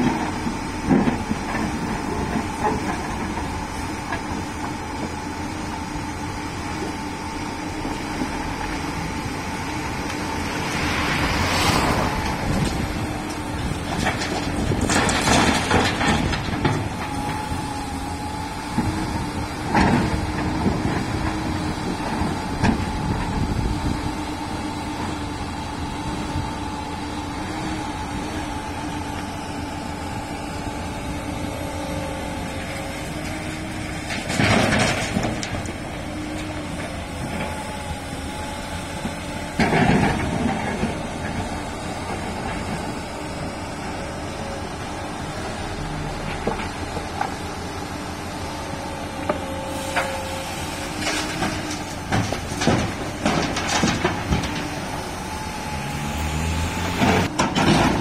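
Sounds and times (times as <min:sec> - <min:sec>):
excavator engine droning: 0:00.0 - 0:58.0.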